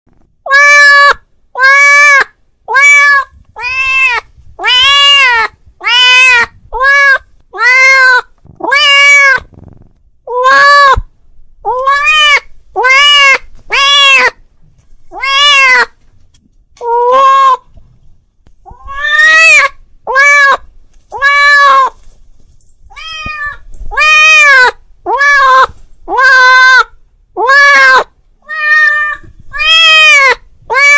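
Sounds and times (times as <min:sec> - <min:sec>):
cat meowing: 0:00.4 - 0:11.1, 0:11.7 - 0:14.4, 0:15.1 - 0:16.0, 0:16.8 - 0:17.7, 0:18.7 - 0:22.0, 0:22.9 - 0:30.9.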